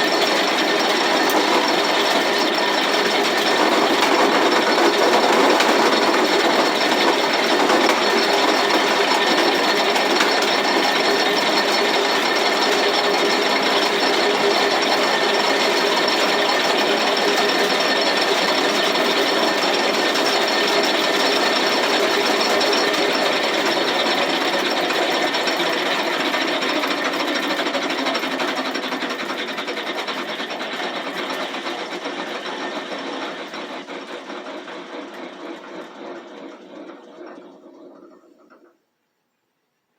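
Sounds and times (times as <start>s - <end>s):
roller mill crushing grain: 0.0s - 38.1s.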